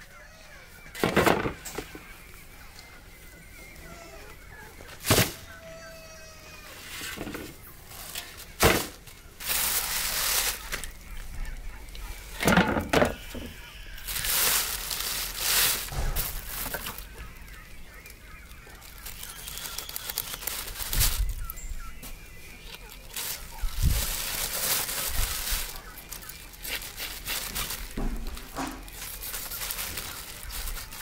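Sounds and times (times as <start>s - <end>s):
plastic sheeting crinkling: 3.8s - 31.0s.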